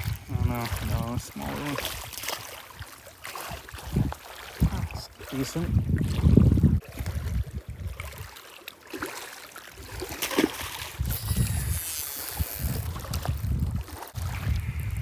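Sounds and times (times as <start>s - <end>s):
wind on microphone: 0.0s - 2.5s, 3.4s - 8.3s, 9.8s - 15.0s.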